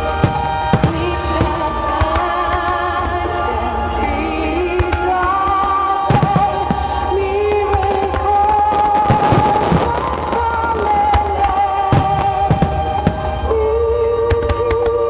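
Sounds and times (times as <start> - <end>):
fireworks bursting with sharp bangs: 0.0 - 3.5, 4.1 - 15.0
music with long held notes: 0.0 - 15.0.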